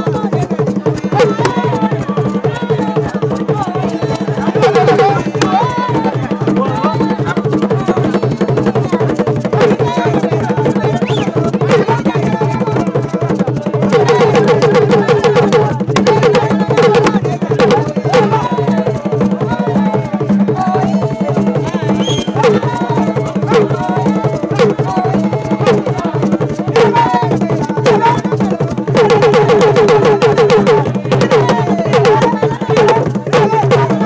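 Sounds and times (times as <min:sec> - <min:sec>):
fast drum percussion music: 0:00.0 - 0:34.0
voices calling and singing: 0:00.0 - 0:34.0.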